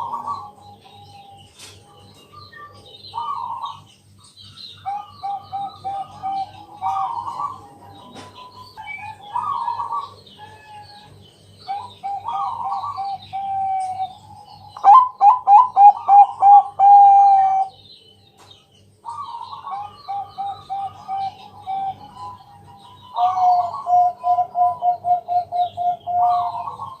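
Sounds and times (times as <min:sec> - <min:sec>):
dove cooing: 0:00.0 - 0:03.9, 0:04.8 - 0:11.1, 0:11.7 - 0:17.8, 0:19.0 - 0:27.0.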